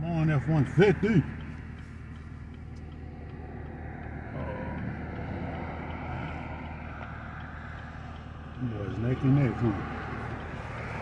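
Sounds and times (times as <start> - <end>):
engine and road noise in car: 0.0 - 11.0.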